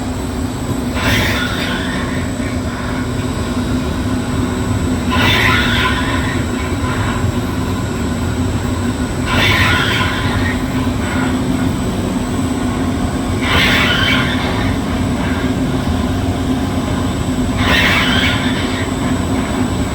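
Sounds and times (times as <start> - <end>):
machine motor hum: 0.0 - 19.9
harsh rasping steel cut: 1.0 - 7.8, 9.1 - 19.9.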